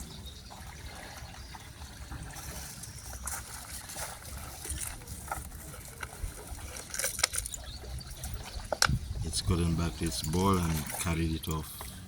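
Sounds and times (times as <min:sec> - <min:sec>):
lake waves lapping at shoreline: 0:00.0 - 0:12.0.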